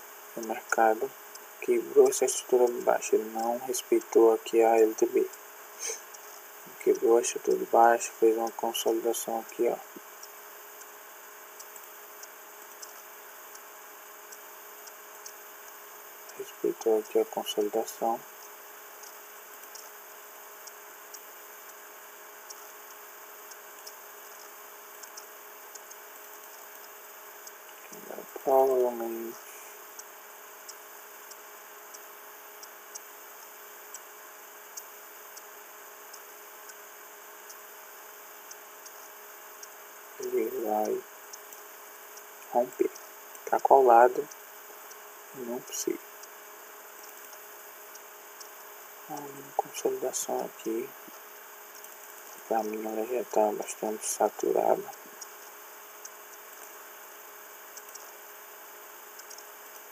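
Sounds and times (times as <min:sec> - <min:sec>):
faint low hum: 0:00.0 - 0:59.9
microphone hiss: 0:00.0 - 0:59.9
soft irregular ticks: 0:00.0 - 0:59.9.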